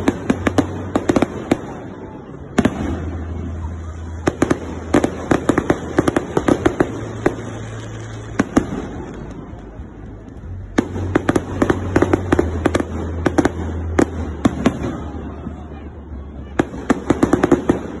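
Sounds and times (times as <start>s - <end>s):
fireworks crackling and popping: 0.0s - 18.0s.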